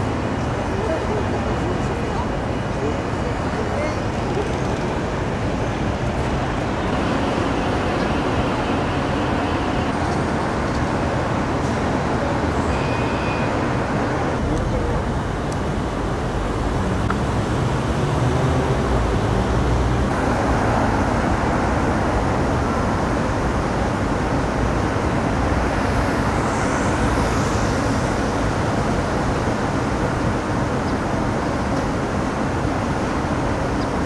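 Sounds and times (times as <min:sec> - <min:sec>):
passing road traffic: 0:00.0 - 0:34.0.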